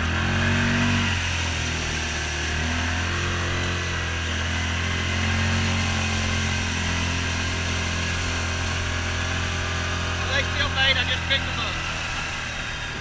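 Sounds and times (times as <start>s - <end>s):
vehicle engine running at low speed: 0.0s - 13.0s.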